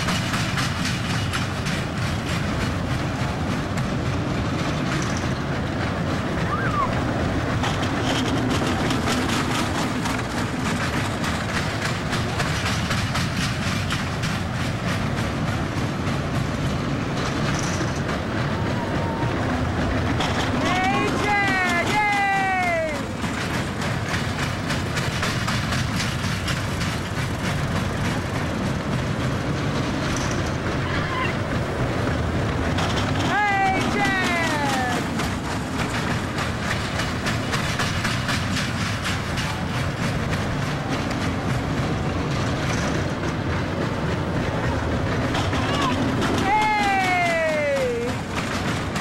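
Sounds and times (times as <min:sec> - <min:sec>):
wheel clicks clattering: 0:00.0 - 0:18.7, 0:19.5 - 0:49.0
roller coaster train rumbling: 0:00.0 - 0:49.0.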